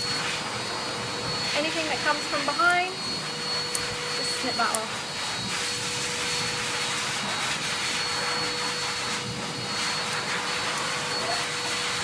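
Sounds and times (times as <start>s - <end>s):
electric fan motor whooshing: 0.0s - 12.0s.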